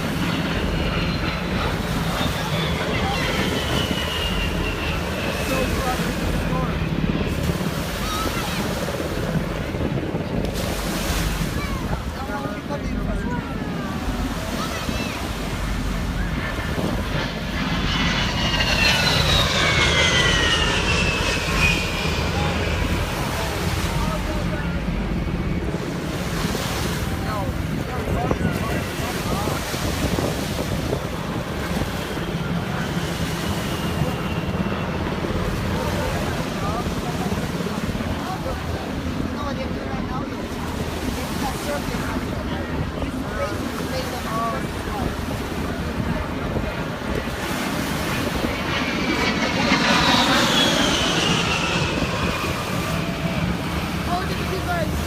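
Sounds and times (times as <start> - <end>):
faint voices: 0.0 - 55.0
jet aircraft passing overhead: 0.0 - 55.0
surf washing: 0.0 - 55.0
wind buffeting microphone: 0.0 - 55.0.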